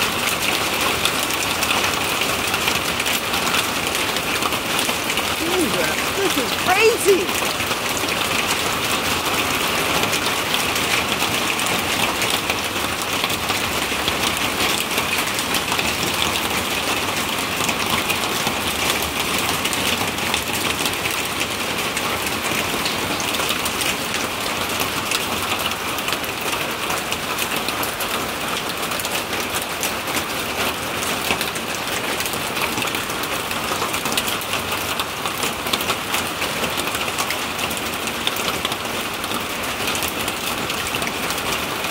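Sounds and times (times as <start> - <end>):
hail and rain on metal roof: 0.0 - 41.9.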